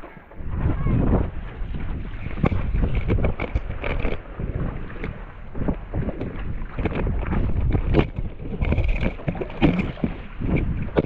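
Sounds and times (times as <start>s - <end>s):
water splashing against boat hull: 0.0s - 11.0s
wind buffeting microphone: 0.0s - 11.0s.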